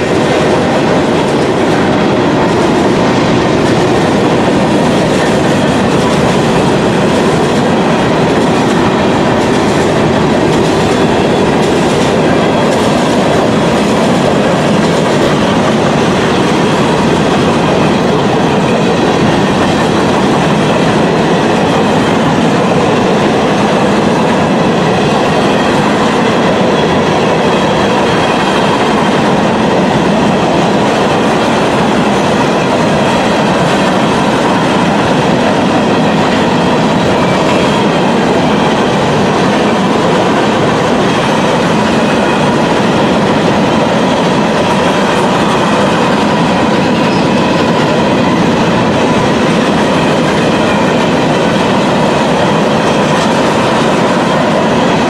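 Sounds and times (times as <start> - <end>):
train cars rumbling on rails: 0.0 - 55.0.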